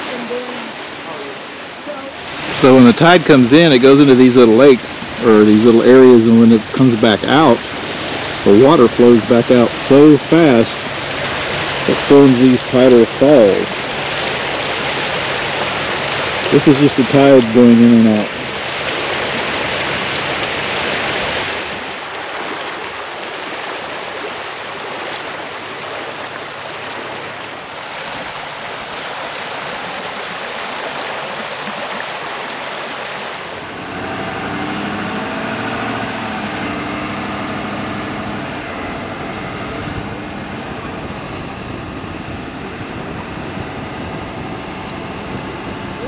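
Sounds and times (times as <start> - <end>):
car engine and road noise: 0.0 - 30.7, 32.0 - 46.0
seawater rushing over rocks: 0.0 - 46.0.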